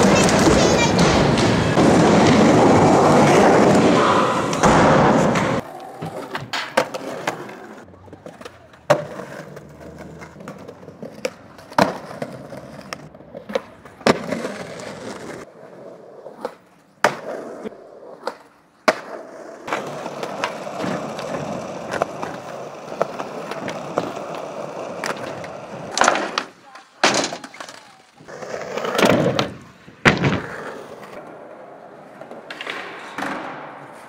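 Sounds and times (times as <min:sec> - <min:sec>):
skateboard clacking on ground: 0:00.0 - 0:15.5, 0:16.2 - 0:34.0
skateboard wheels rolling: 0:00.0 - 0:34.0.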